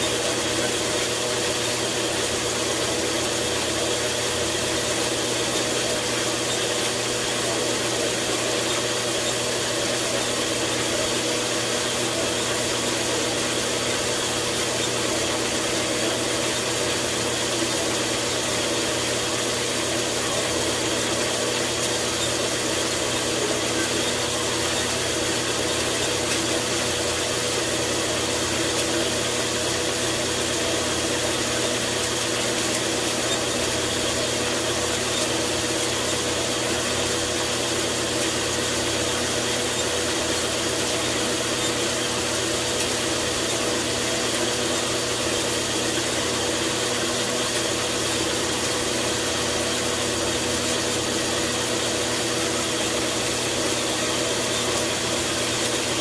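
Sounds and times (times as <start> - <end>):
bandsaw motor hum: 0.0 - 56.0.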